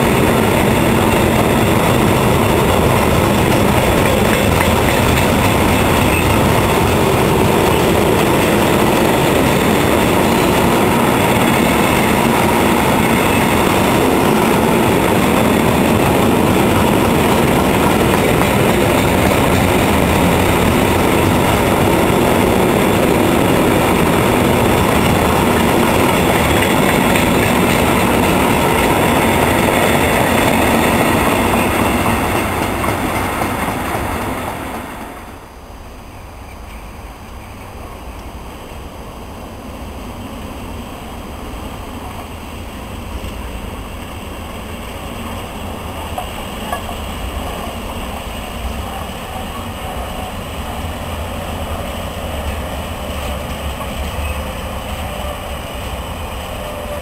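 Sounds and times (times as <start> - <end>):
steel wheels rolling on rail: 0.0 - 57.0.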